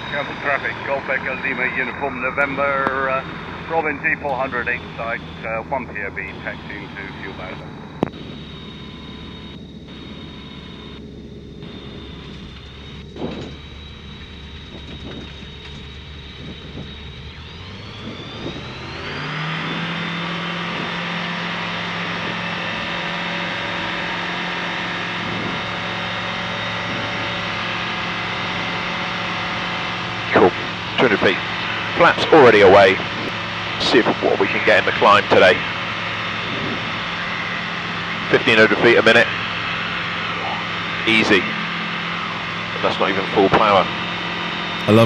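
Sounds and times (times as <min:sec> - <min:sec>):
light aircraft engine and propeller: 0:00.0 - 0:45.0.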